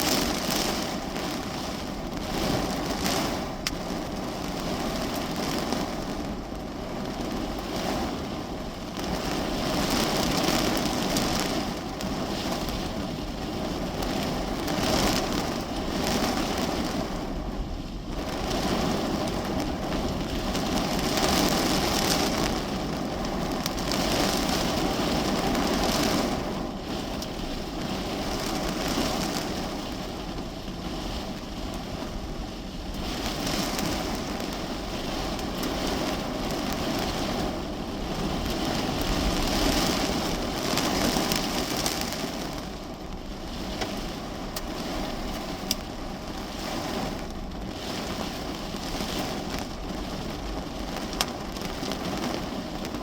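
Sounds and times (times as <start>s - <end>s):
heavy rain on car roof: 0.0s - 53.0s.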